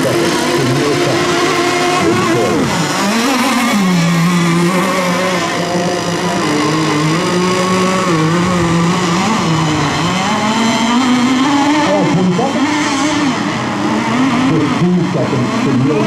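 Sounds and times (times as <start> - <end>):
model boat engines revving: 0.0 - 16.0.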